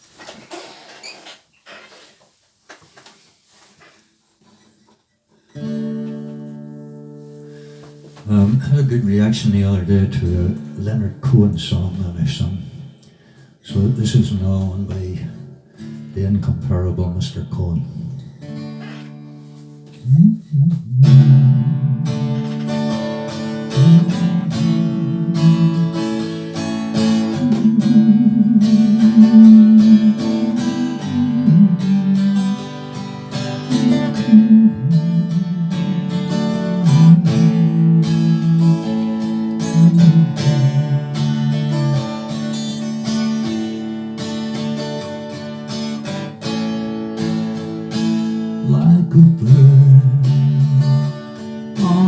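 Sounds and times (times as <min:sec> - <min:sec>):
acoustic guitar picking: 0:05.5 - 0:52.0.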